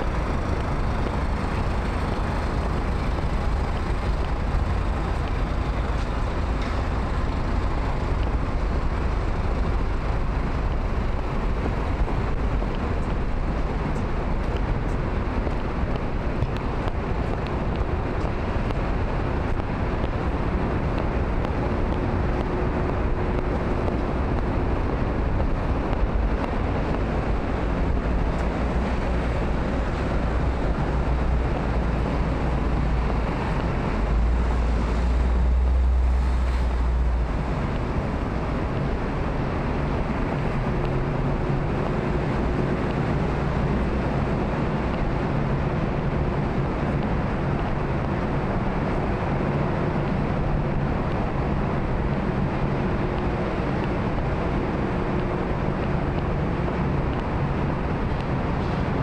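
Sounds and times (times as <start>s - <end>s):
deep rumble: 0.0s - 59.0s
traffic noise: 0.0s - 59.0s
wind buffeting microphone: 0.0s - 59.0s.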